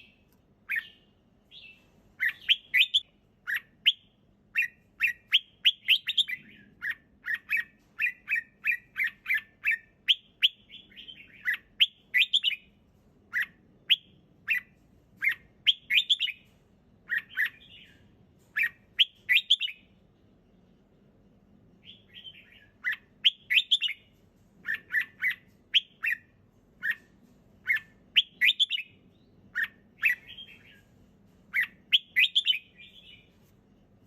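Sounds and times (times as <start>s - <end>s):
bird singing whistled notes: 0.0s - 12.7s, 13.3s - 16.5s, 17.1s - 19.9s, 21.8s - 27.0s, 27.6s - 30.9s, 31.5s - 33.3s.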